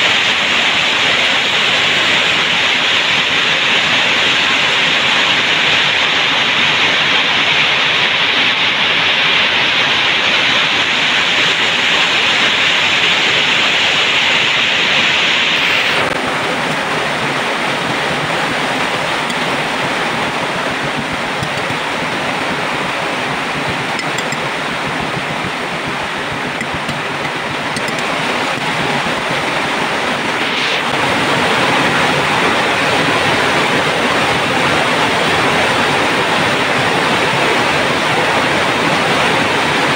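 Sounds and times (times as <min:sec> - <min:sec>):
water boiling in metal pot: 0:00.0 - 0:39.9.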